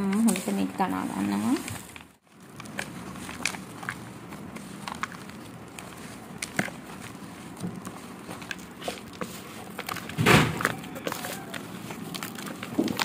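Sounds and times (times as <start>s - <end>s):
hand kneading dough: 0.0s - 13.0s.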